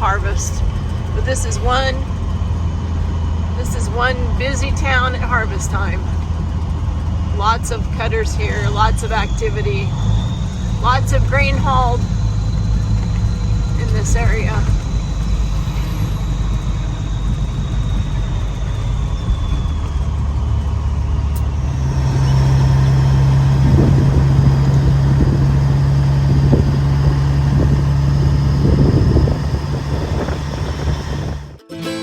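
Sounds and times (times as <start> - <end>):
deep steady hum: 0.0 - 31.6
vehicle engine and road drone: 0.0 - 31.6.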